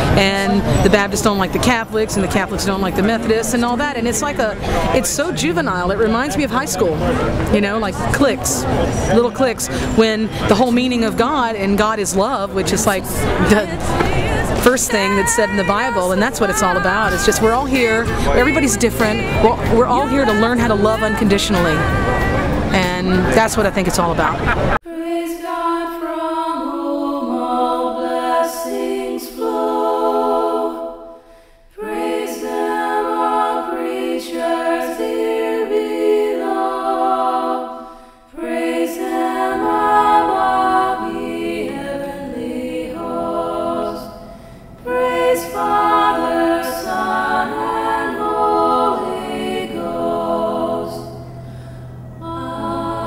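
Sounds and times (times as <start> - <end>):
choir singing a cappella: 0.0 - 53.0.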